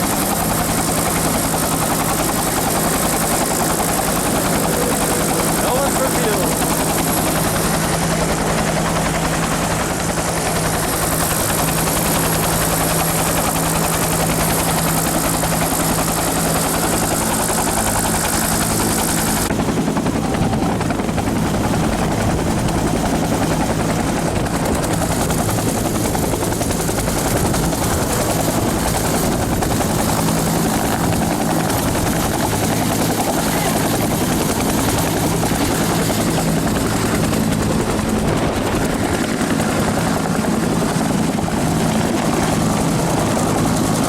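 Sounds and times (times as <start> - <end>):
helicopter engine and rotor: 0.0 - 44.0.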